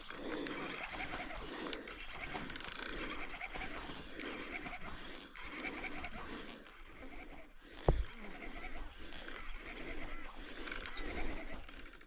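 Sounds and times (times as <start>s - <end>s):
person breathing hard: 0.0s - 12.0s.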